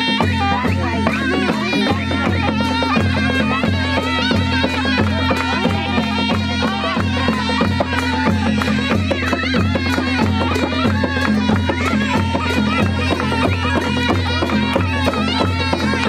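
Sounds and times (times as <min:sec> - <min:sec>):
drums and cymbals beat: 0:00.0 - 0:16.0
reed pipe melody: 0:00.0 - 0:16.0.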